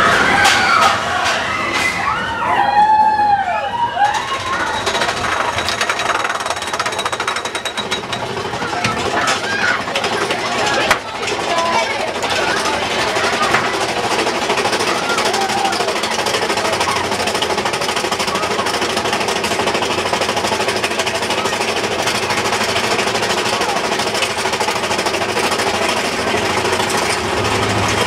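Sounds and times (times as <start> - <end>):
coaster lift chain clattering: 3.9 - 28.0.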